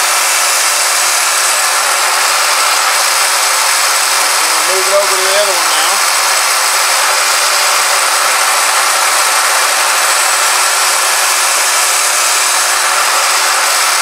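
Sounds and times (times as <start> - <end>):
drill bit drilling plastic: 0.0 - 14.0
drill press motor whine: 0.0 - 14.0.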